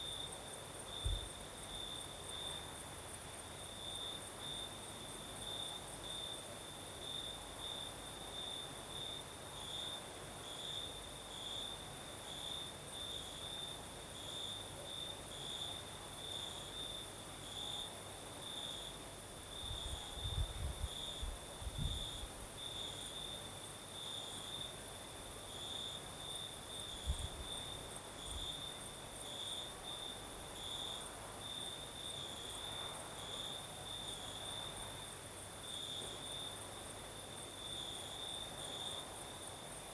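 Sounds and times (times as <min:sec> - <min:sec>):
crickets chirping: 0:00.0 - 0:39.9
insect hiss: 0:00.0 - 0:39.9.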